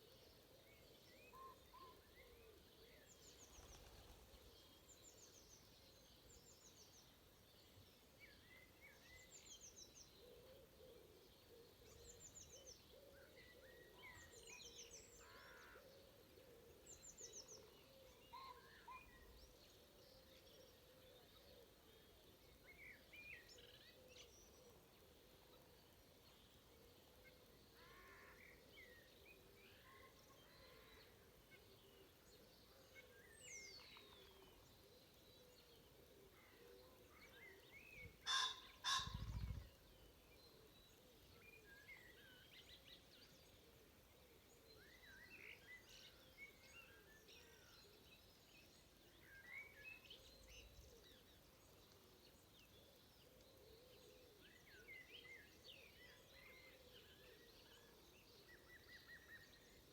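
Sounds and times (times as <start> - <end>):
songbird calls: 0.0 - 7.3, 8.2 - 59.9.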